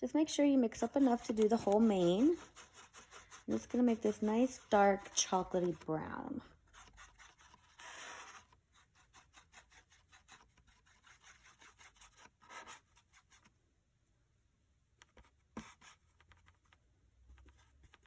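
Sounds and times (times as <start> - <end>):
paintbrush scratching on plastic: 0.6 - 13.6, 15.0 - 18.0.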